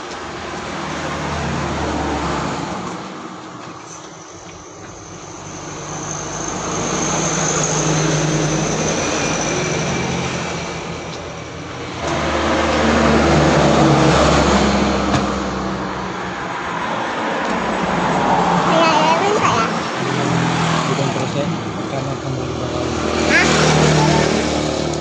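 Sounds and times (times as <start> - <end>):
loud engine: 0.0 - 4.0, 5.0 - 25.0
vehicle engine: 0.0 - 25.0.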